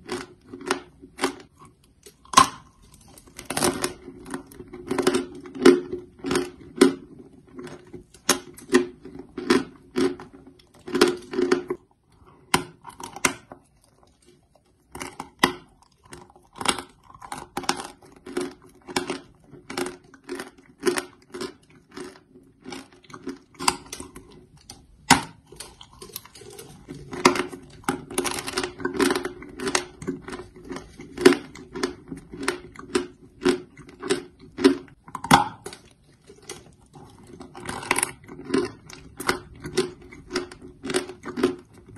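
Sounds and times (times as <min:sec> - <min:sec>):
person chewing crunchy chalk: 0:00.0 - 0:41.9.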